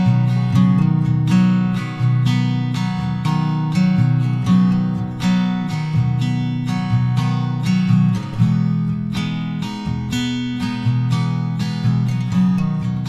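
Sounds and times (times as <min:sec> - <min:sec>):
acoustic guitar picking and strumming: 0:00.0 - 0:13.0.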